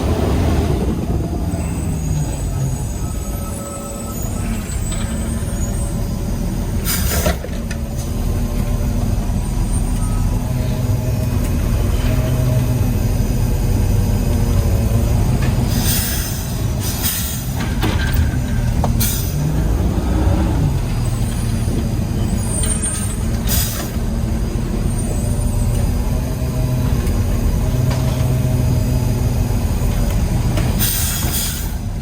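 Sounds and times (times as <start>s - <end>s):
garbage truck engine running: 0.0s - 32.0s.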